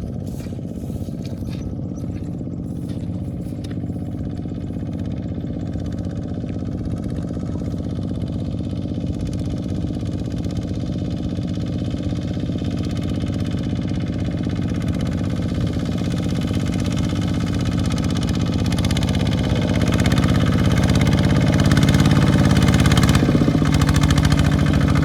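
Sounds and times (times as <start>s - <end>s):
tractor engine chugging: 0.0s - 25.0s.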